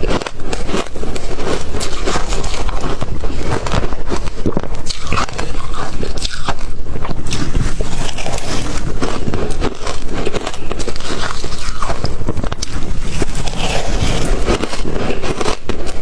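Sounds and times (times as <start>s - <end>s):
chewing crunchy ice: 0.0s - 16.0s.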